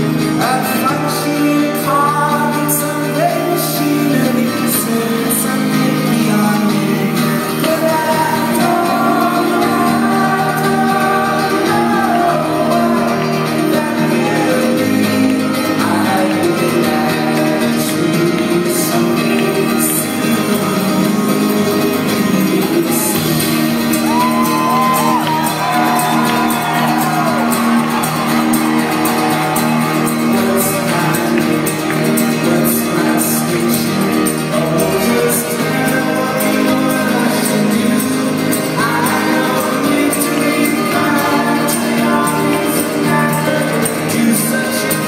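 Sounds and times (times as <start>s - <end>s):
acoustic guitars: 0.0s - 45.0s
band playing live: 0.0s - 45.0s
person singing: 0.0s - 45.0s.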